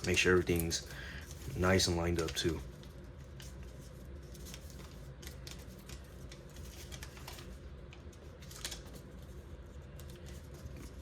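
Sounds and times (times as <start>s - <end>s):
low steady hum: 0.0s - 11.0s
paper crinkling while folded: 0.0s - 11.0s.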